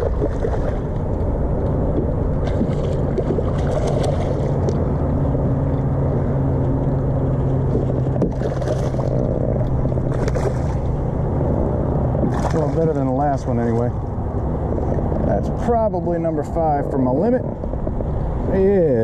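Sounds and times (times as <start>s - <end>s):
wind and water rushing: 0.0s - 6.5s, 7.1s - 19.0s
steady low hum: 0.0s - 19.0s.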